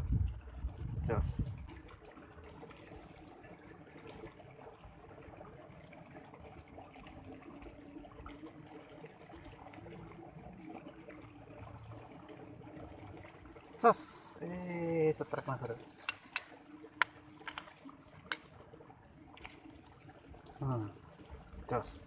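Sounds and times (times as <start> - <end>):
faint trickling water: 0.0 - 22.0.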